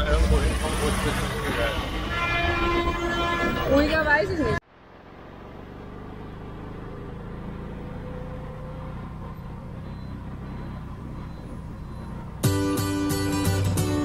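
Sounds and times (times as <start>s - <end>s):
rickshaw engine humming: 0.0s - 14.0s.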